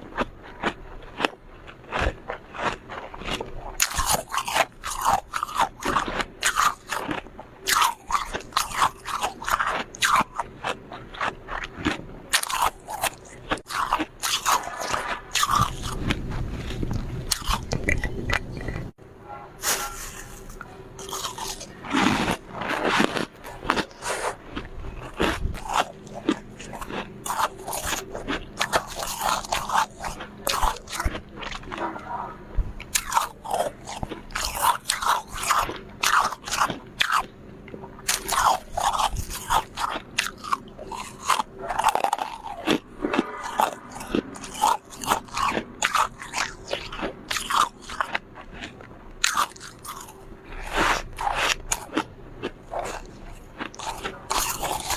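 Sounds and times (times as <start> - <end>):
chewing crunchy frost: 0.0 - 19.0, 19.6 - 54.9.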